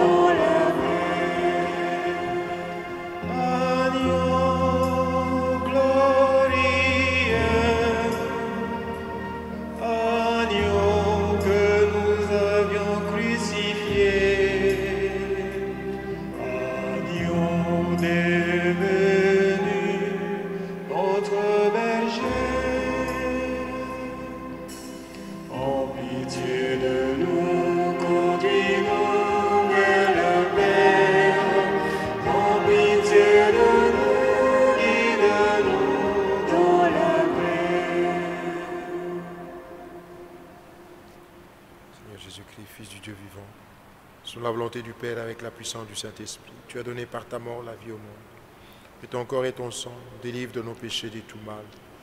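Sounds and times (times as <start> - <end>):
organ-like chords: 0.0 - 41.9
voices singing a hymn: 0.0 - 42.2.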